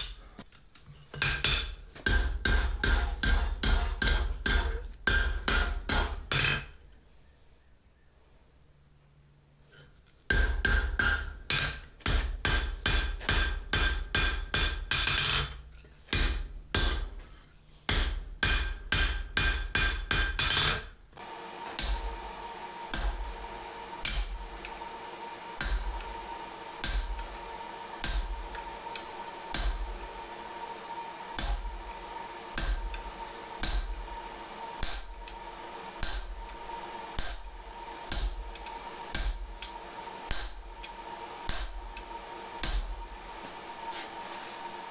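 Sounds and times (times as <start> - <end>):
steady hum: 0.0 - 44.9.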